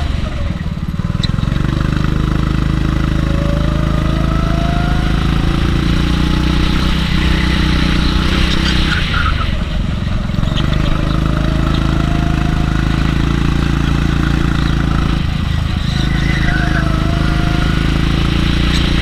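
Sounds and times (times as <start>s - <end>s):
kart engine running hard: 0.0s - 19.0s.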